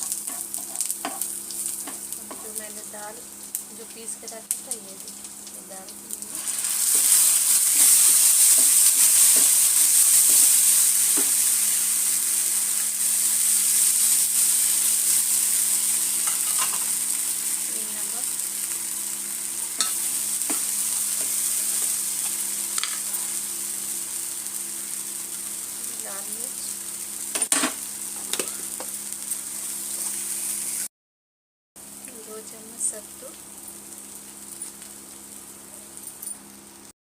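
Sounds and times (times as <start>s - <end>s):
paste sizzling in hot oil: 0.0s - 30.9s.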